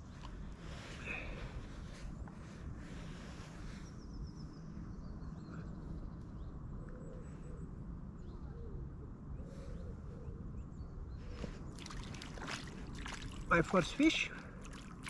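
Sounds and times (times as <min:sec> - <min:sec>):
faint bird calls: 0:00.0 - 0:14.6
steady low rumble: 0:00.0 - 0:15.0.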